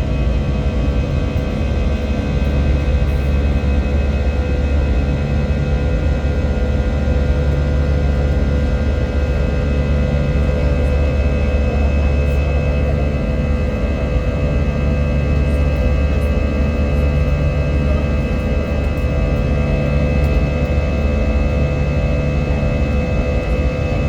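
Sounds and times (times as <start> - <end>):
engine whine: 0.0 - 24.0
jet engine cabin rumble: 0.0 - 24.0.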